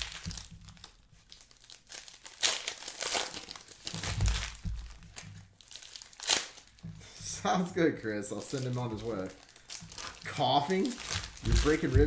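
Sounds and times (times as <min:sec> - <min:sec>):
foil wrappers crinkling and tearing: 0:00.0 - 0:06.9, 0:07.6 - 0:12.0.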